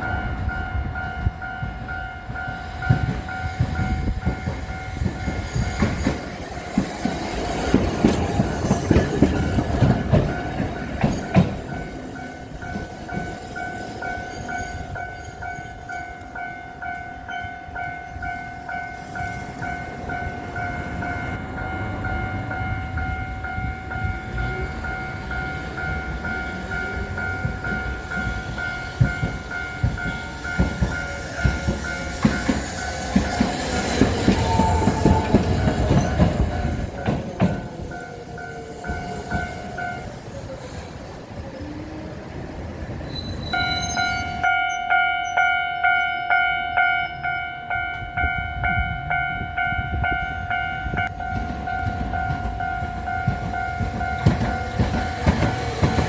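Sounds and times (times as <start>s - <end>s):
level-crossing warning bell: 0.0s - 42.1s, 43.1s - 56.0s
tram rumbling on rails: 0.0s - 56.0s.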